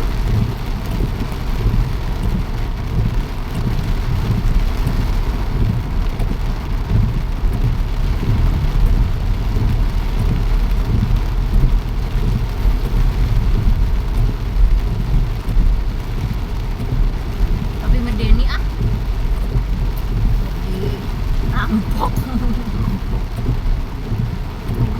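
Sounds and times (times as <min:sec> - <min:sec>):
continuous low rumble: 0:00.0 - 0:24.9
steady rain falling: 0:00.0 - 0:24.9.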